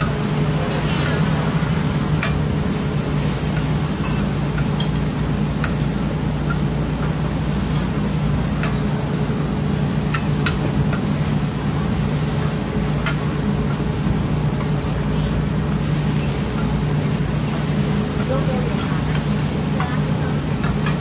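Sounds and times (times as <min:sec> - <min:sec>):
cooking equipment hum and hiss: 0:00.0 - 0:21.0.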